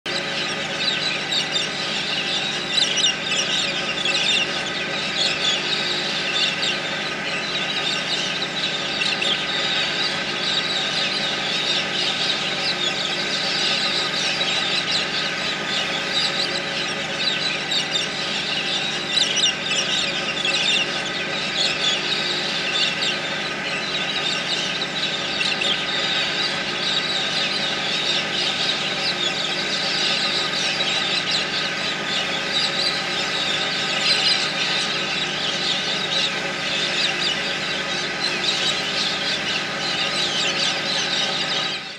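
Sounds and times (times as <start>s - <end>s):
mechanical hum: 0.0s - 41.9s
galahs screeching: 0.1s - 41.9s.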